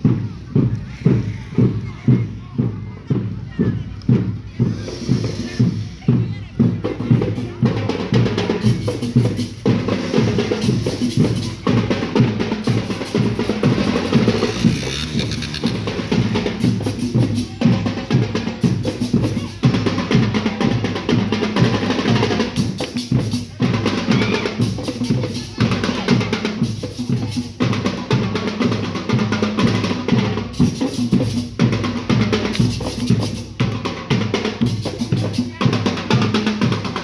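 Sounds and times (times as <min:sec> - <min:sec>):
marching snare and bass drums: 0:00.0 - 0:37.0.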